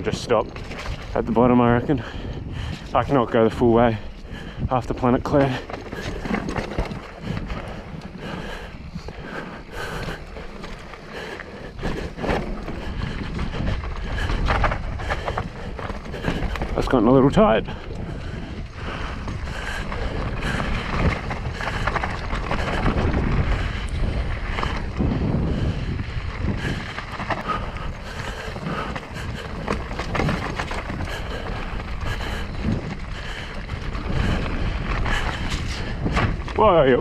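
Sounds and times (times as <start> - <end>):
bike rattling over bumps: 0.0 - 37.0
bike tyre noise on dirt: 0.0 - 37.0
wind on microphone: 0.0 - 37.0.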